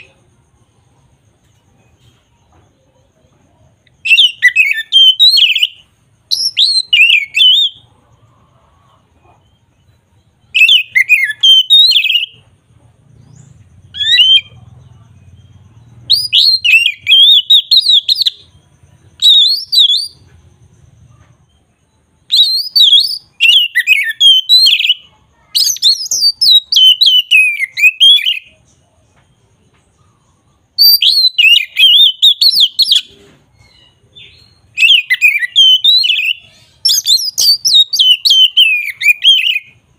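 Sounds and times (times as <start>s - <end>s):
bird singing high chirps: 1.0s - 39.9s.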